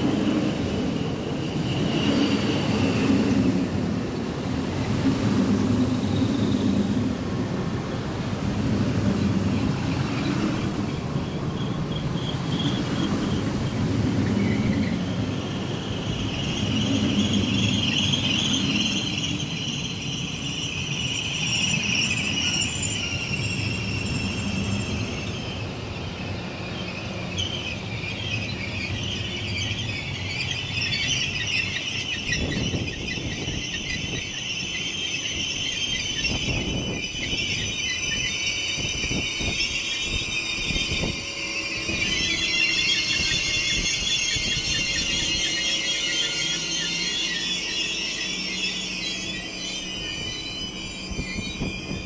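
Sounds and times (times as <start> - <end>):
rumble of train wheels: 0.0 - 52.0
train brakes squealing: 0.0 - 52.0.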